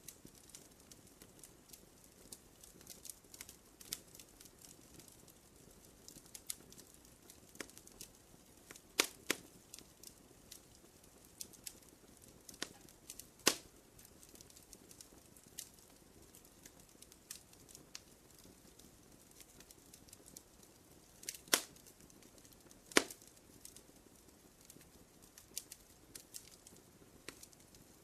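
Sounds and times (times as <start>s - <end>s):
faint low hiss: 0.0s - 28.0s
wood fire crackling: 0.0s - 28.0s.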